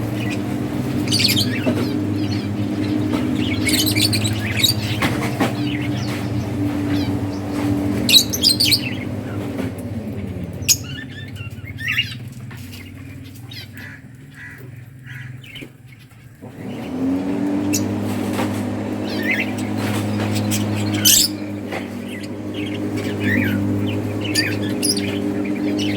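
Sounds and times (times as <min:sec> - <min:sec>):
budgerigars chirping: 0:00.0 - 0:25.9
low motor hum: 0:00.0 - 0:25.9.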